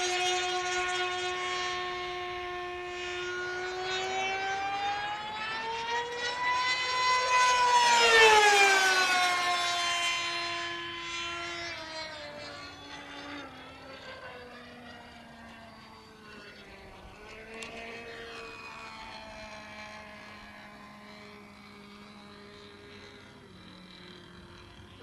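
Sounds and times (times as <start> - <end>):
model aircraft engine whine: 0.0 - 25.0.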